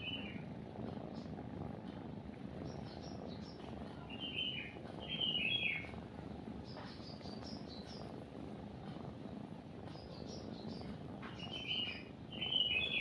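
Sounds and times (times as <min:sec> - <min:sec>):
small birds chirping: 0:00.0 - 0:01.4, 0:02.3 - 0:13.0
cat purring: 0:00.0 - 0:13.0.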